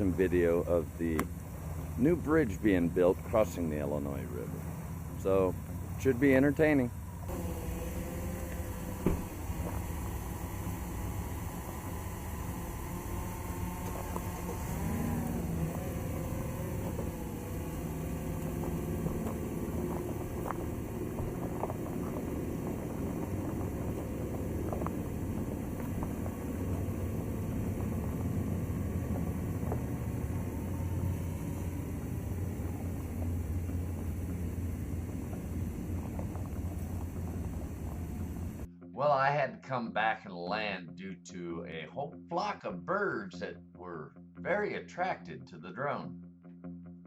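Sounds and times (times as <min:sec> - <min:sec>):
motor hum: 0:00.0 - 0:38.7.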